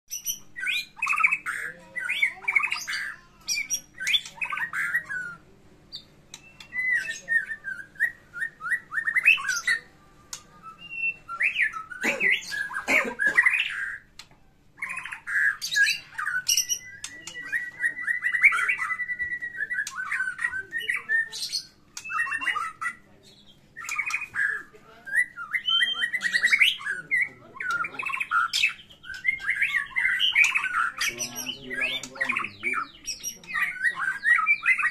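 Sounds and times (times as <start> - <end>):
bird singing harsh trills: 0.1 - 34.9.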